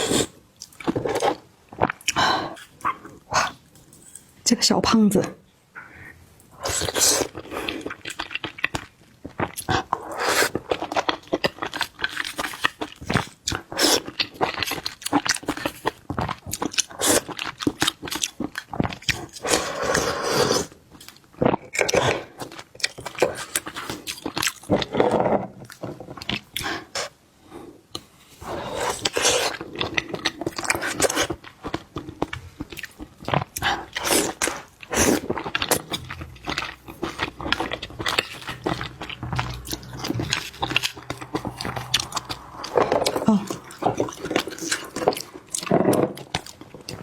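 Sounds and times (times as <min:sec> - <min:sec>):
chewing and crunching shellfish: 0:00.0 - 0:04.4, 0:06.5 - 0:47.0.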